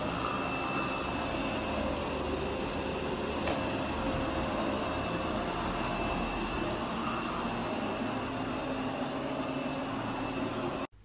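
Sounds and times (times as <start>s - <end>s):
robot vacuum whirring: 0.0s - 10.9s
high steady whine: 0.0s - 11.0s.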